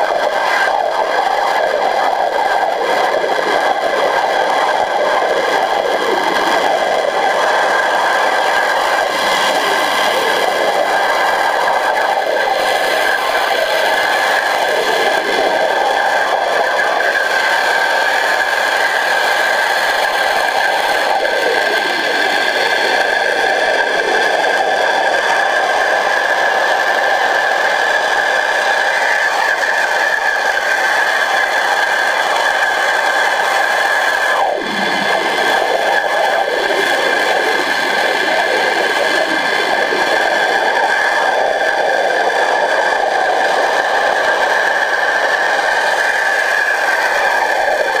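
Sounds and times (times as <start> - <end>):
pressure washer spraying underwater: 0.0 - 48.0.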